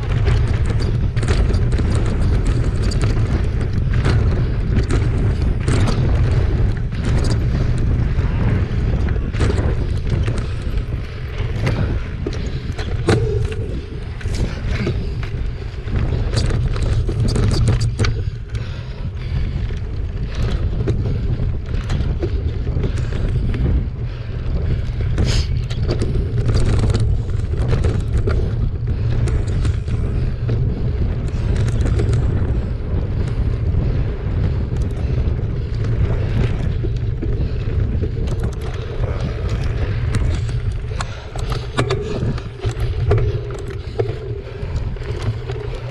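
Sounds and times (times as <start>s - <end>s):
bike rattling over rough ground: 0.0s - 45.9s
wind rushing over microphone: 0.0s - 45.9s.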